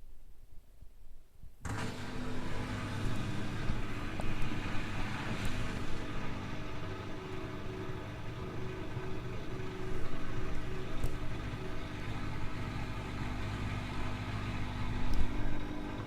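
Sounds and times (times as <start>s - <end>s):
washing machine motor humming: 1.6s - 16.0s.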